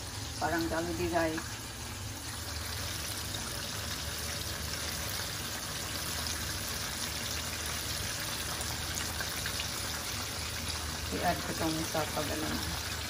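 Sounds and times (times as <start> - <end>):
chicken deep-frying in hot oil: 0.0 - 13.0.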